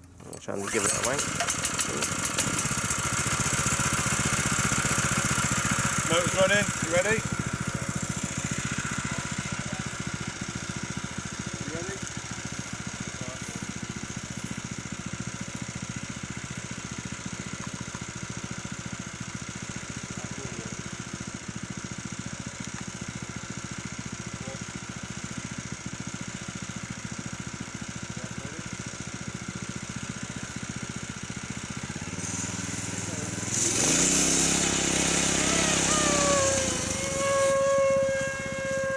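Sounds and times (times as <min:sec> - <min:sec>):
small engine idling: 0:00.0 - 0:38.9.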